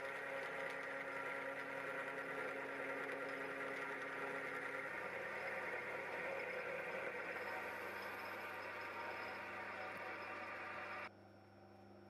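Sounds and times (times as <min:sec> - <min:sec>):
electric motor humming: 0:00.0 - 0:11.1.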